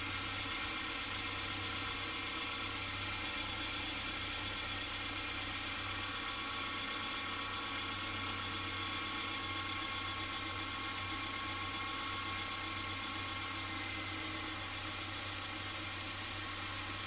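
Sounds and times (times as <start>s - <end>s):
car engine running: 0.0s - 17.0s
rapid high-pitched engine ticking: 0.0s - 17.0s.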